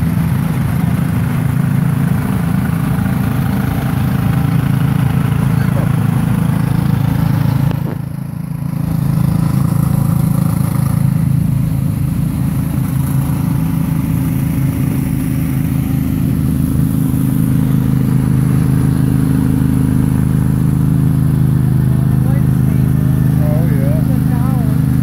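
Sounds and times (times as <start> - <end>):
riding lawn mower engines: 0.0 - 25.0.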